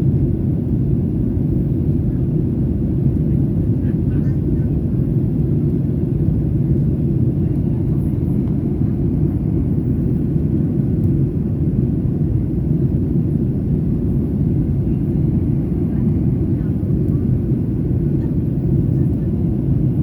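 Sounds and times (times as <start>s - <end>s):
jet engines rumbling: 0.1s - 20.0s.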